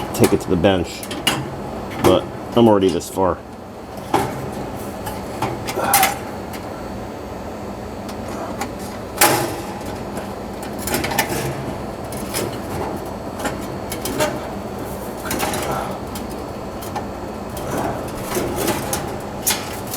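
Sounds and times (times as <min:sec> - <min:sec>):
sheet metal clicks and rattles: 0:00.0 - 0:03.0, 0:03.9 - 0:06.7, 0:08.1 - 0:19.9.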